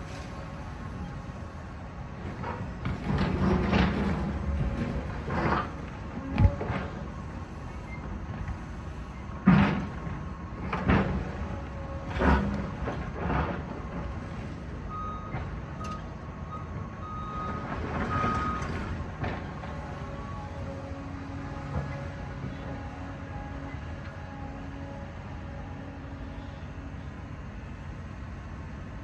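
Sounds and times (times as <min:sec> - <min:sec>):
engine rumble: 0:00.0 - 0:29.0.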